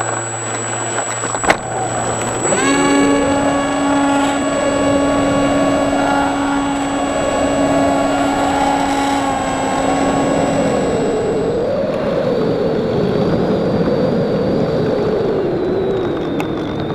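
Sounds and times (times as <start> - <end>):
electric motor and propeller whine: 0.0 - 16.9.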